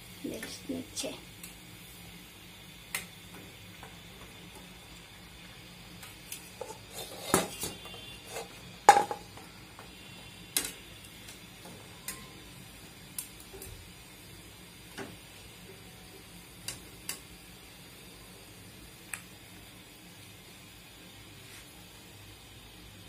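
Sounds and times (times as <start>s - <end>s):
frying oil sizzling: 0.0s - 23.0s.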